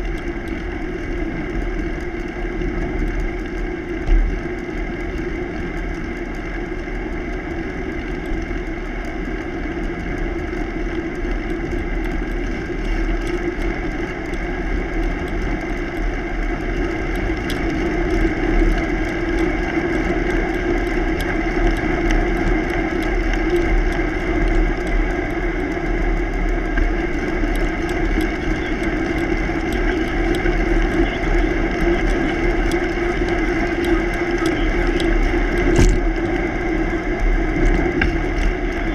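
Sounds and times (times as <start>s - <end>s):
bicycle tyres on gravel: 0.0s - 38.9s
light ticks: 0.0s - 38.9s
wind on microphone: 0.0s - 38.9s.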